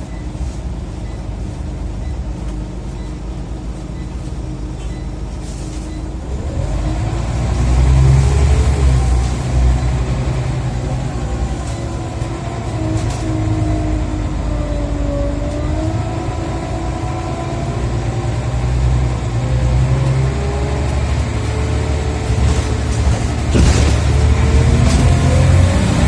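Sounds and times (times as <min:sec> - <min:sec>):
bus engine rumble: 0:00.0 - 0:26.0.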